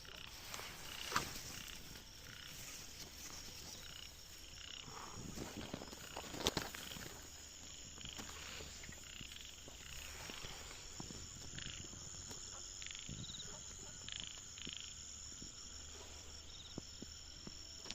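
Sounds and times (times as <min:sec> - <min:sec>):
frogs croaking: 0:00.0 - 0:17.9
high insect trill: 0:00.0 - 0:17.9.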